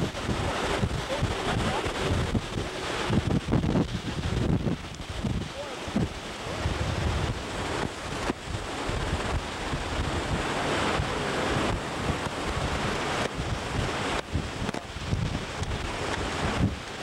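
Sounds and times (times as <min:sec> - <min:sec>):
heavy surf breaking: 0:00.0 - 0:17.0
wind roaring and buffeting microphone: 0:00.0 - 0:17.0.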